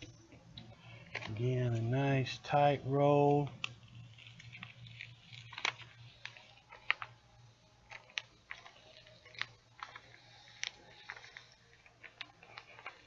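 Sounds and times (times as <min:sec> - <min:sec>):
low steady hum: 0:00.0 - 0:13.0
paper crackling and clicking: 0:00.6 - 0:02.0, 0:03.3 - 0:13.0.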